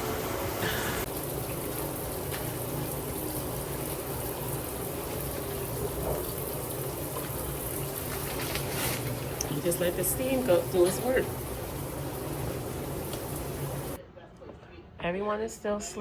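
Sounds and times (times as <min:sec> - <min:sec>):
shower water spraying: 0:00.0 - 0:14.0.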